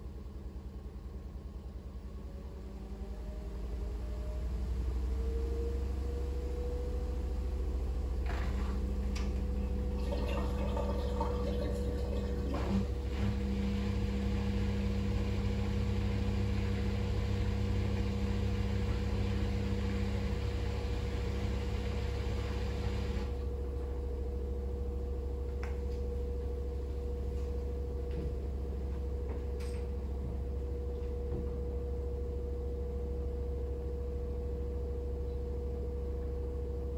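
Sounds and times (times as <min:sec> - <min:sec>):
washing machine spinning: 0:00.0 - 0:36.9.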